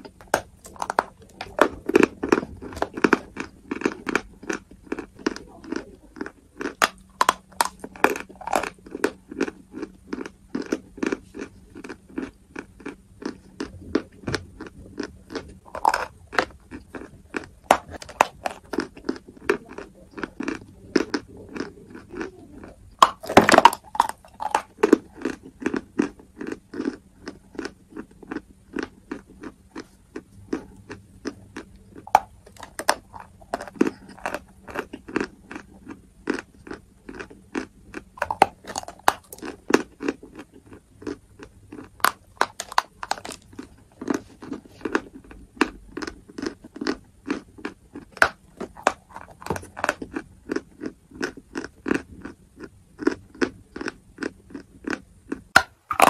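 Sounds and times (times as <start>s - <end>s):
person chewing chalk crunching: 0.0s - 56.0s.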